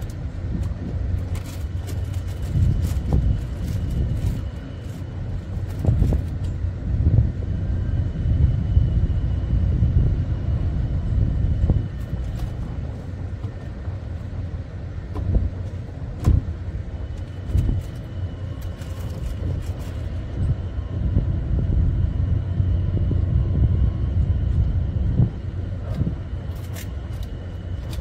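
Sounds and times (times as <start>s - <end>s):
faint high whine: 0.0s - 28.0s
low rumble: 0.0s - 28.0s.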